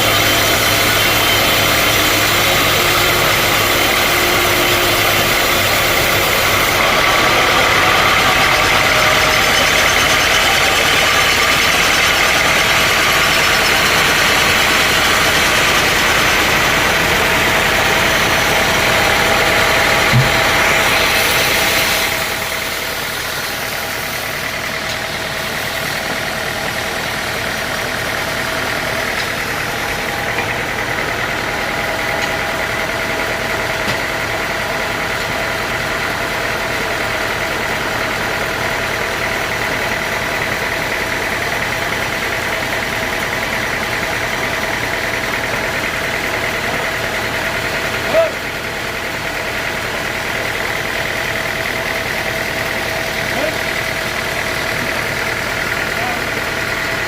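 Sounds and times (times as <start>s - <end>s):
sawmill machinery whining: 0.0s - 57.0s.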